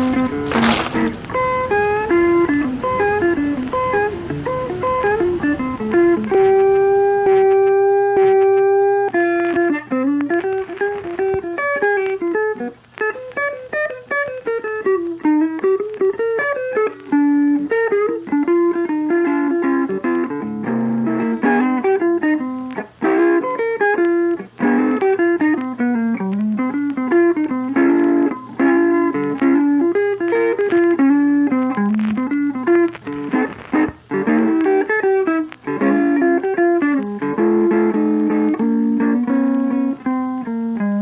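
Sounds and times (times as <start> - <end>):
fast guitar melody: 0.0 - 41.0.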